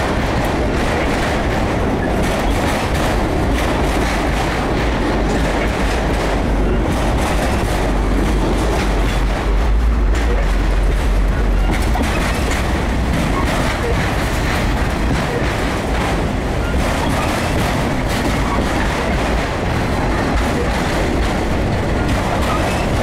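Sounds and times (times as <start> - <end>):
train wheels rumbling on rails: 0.0 - 23.0
wheels clicking over rail joints: 0.0 - 23.0.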